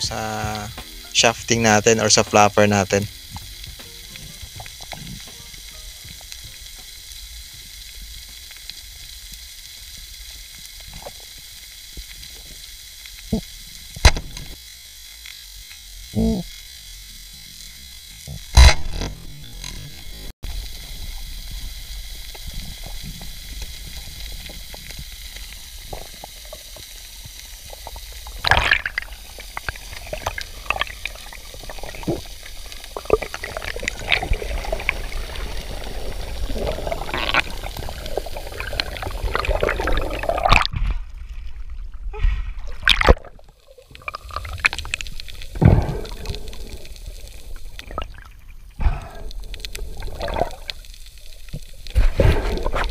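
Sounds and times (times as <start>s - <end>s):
water moving underwater: 1.7s - 15.6s, 16.6s - 52.9s.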